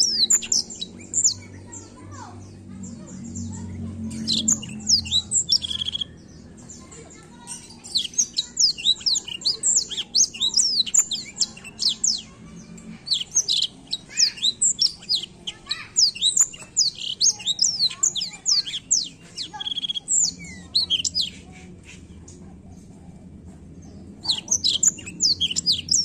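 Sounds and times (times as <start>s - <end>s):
buzzy bird trill: 0.0s - 21.6s, 24.2s - 26.0s.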